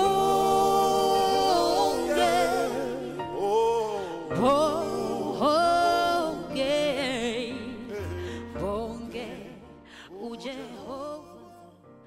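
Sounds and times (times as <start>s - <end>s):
woman singing gospel: 0.0s - 3.2s, 4.1s - 11.8s.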